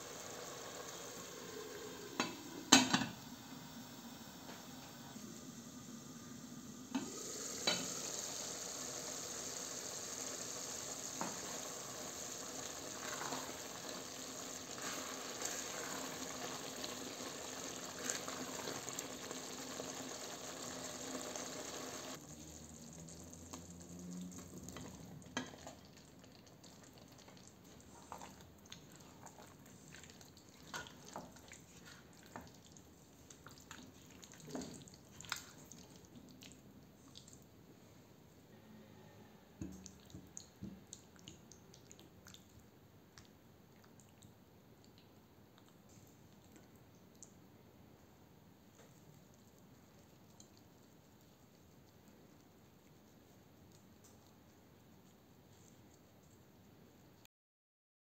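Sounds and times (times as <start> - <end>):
sauce bubbling in a pot: 0.0 - 37.5, 39.6 - 47.5, 48.8 - 54.7.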